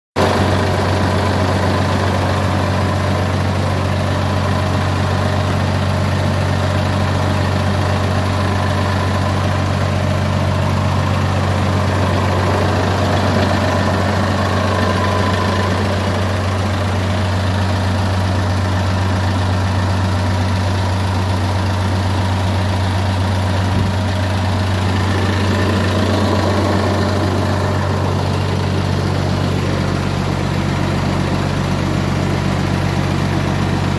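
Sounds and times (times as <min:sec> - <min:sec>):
engine idling: 0:00.2 - 0:33.9.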